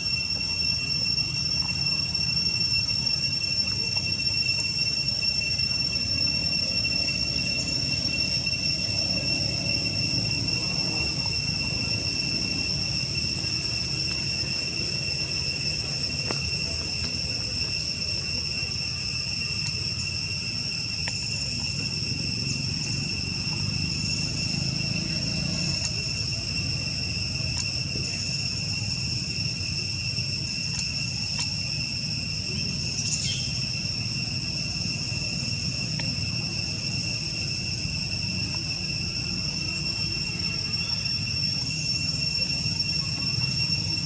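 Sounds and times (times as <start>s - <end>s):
high-pitched insect drone: 0.0s - 44.0s
rising squeak: 0.0s - 44.0s.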